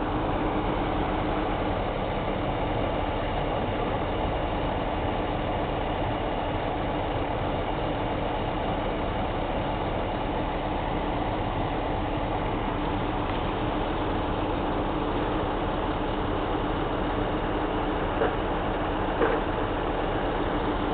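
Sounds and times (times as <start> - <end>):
tractor engine running steadily: 0.0 - 20.9.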